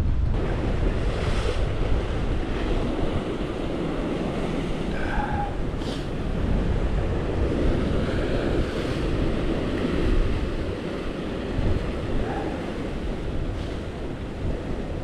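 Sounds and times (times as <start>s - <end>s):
sea surf around rocks: 0.0s - 15.0s
wind rumbling on microphone: 0.0s - 15.0s.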